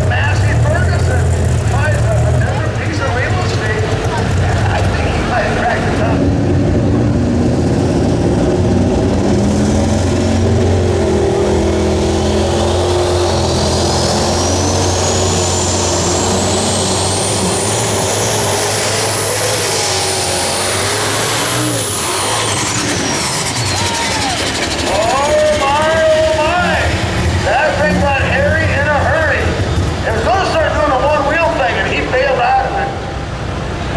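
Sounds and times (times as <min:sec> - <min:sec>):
tractor diesel engine under load: 0:00.0 - 0:33.9
turbocharger whine: 0:00.0 - 0:33.9.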